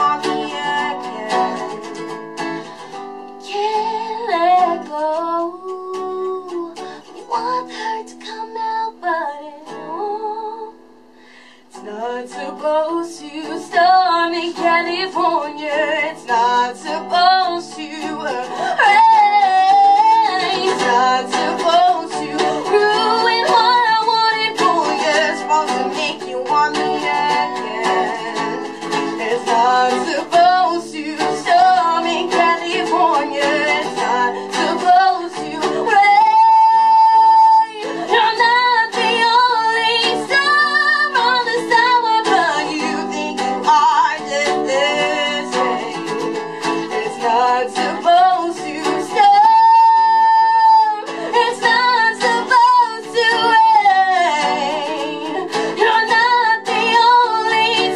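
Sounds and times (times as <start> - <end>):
woman singing: 0.0 - 11.0, 11.6 - 57.9
acoustic guitar: 0.0 - 57.9.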